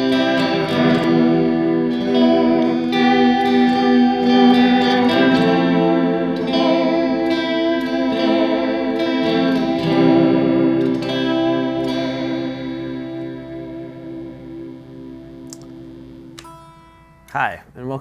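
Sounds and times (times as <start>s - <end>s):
guitar chords with chorus wobble: 0.0s - 17.3s.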